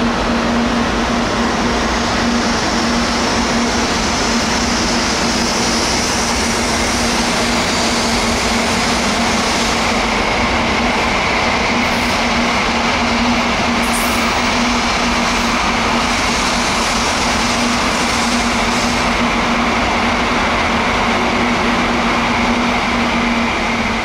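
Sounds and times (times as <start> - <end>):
high-speed train rushing past: 0.0 - 24.0
train whine: 0.0 - 24.0.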